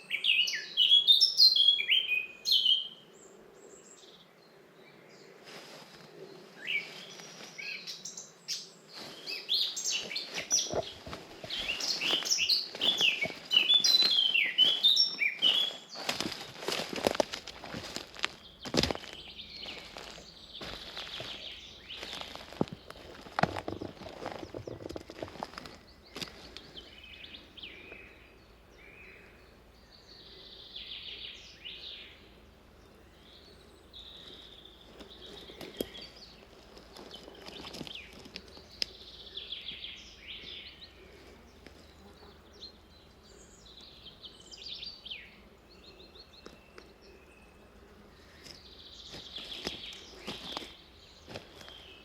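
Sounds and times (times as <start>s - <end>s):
songbirds chirping and warbling: 0.0s - 52.0s.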